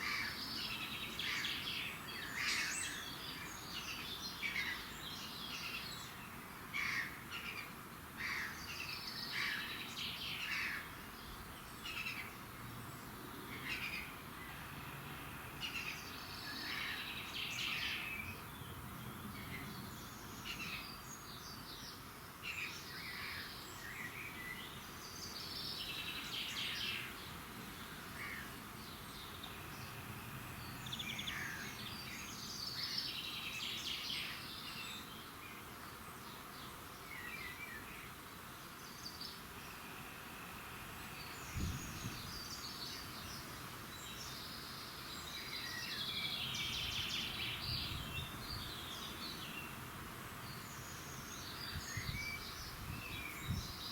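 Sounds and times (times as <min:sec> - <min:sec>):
background hiss: 0:00.0 - 0:53.9
songbirds singing: 0:00.0 - 0:53.9.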